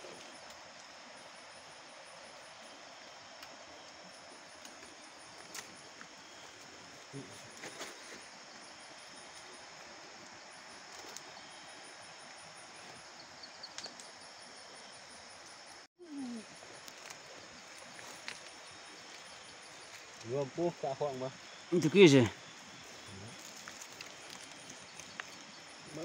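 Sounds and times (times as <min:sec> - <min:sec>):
night insects chirping: 0:00.0 - 0:26.0.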